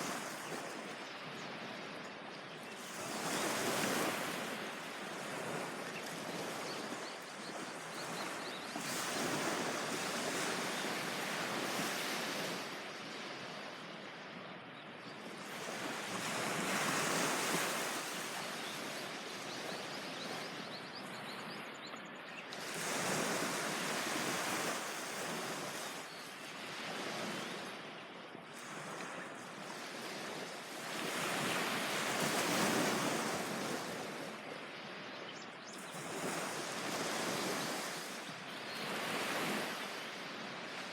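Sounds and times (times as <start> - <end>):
waves washing on a beach: 0.0 - 40.9.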